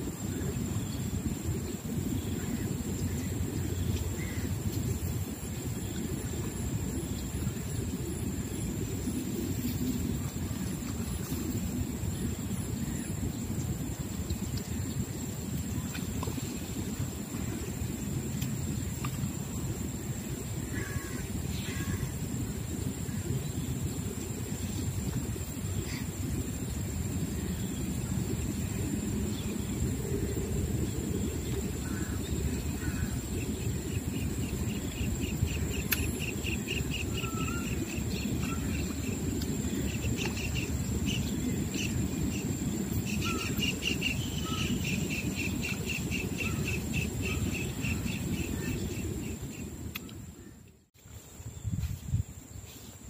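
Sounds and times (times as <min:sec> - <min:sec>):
insect whine: 0:00.0 - 0:53.0.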